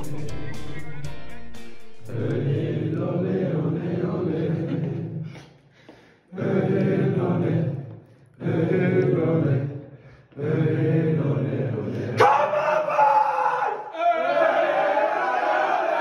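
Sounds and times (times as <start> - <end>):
players chanting in unison: 2.1 - 5.3, 6.3 - 16.0.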